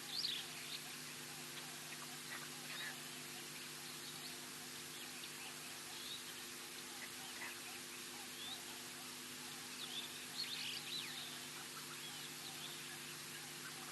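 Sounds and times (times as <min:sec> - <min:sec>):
faint electrical hum: 0:00.0 - 0:13.9
steady hiss: 0:00.0 - 0:13.9.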